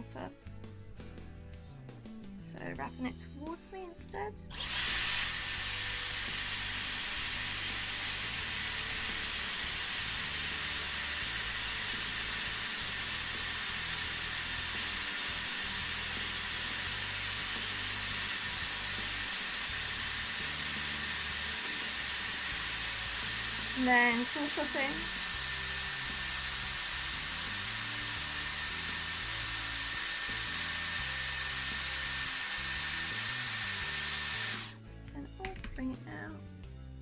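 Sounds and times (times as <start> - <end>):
high motor whine: 4.5 - 34.7
hair styler blowing hot air: 4.5 - 34.8.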